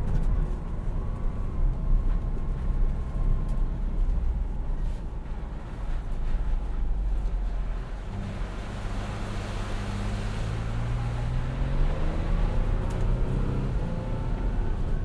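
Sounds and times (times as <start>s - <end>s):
engine pulling at low speed: 0.0s - 15.0s
low cabin rumble: 0.0s - 15.0s.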